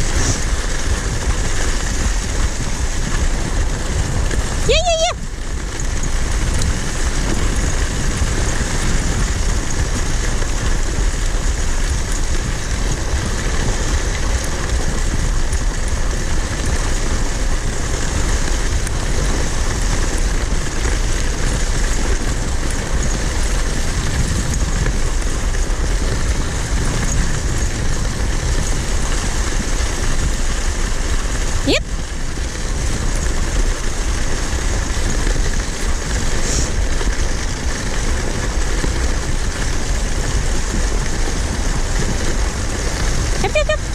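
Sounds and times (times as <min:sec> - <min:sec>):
kicksled gliding over snow: 0:00.0 - 0:43.9
wind buffeting microphone: 0:00.0 - 0:43.9.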